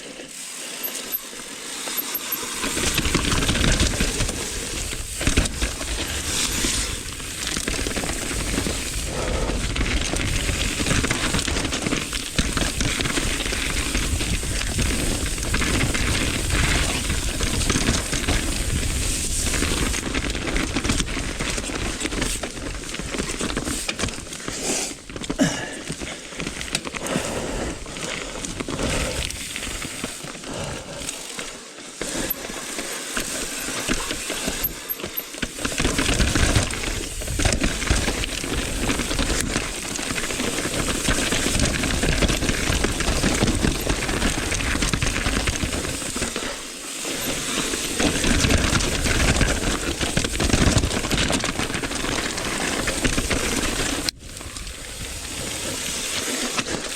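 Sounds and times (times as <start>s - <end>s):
bike clattering and rattling: 0.0s - 56.9s
tyres rolling on rock: 2.0s - 54.1s.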